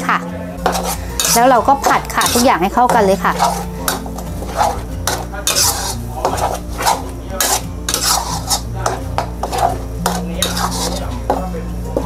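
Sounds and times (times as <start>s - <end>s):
curry paste frying: 0.4s - 12.0s
metal spatula scraping a wok: 0.6s - 12.0s.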